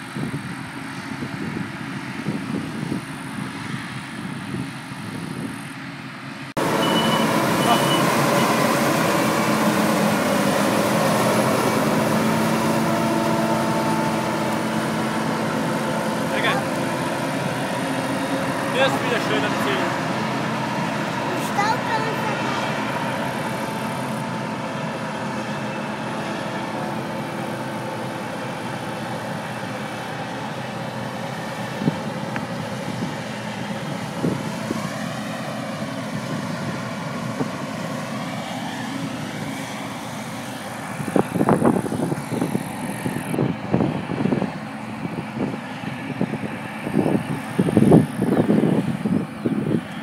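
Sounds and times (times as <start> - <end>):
combine harvester running: 0.0 - 50.0.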